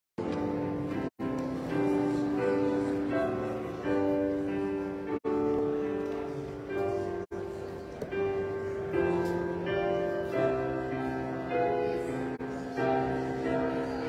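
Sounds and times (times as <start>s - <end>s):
keyboard playing held chords: 0.2s - 14.0s.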